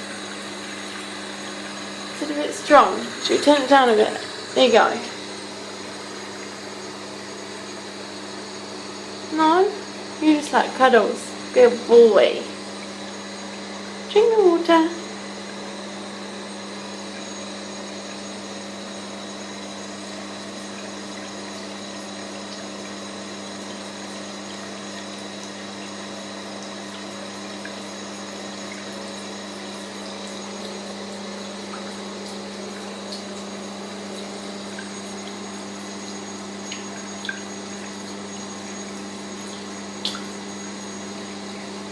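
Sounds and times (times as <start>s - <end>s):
water tap running: 0.0s - 41.9s.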